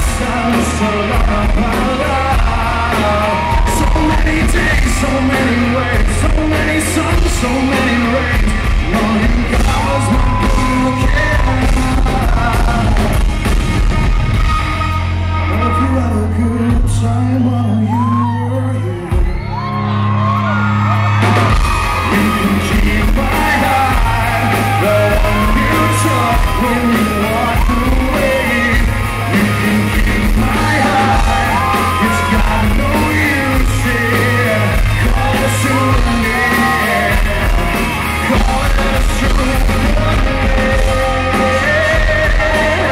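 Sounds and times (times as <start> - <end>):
man singing: 0.0 - 20.6, 21.5 - 42.9
live rock band playing: 0.0 - 42.9.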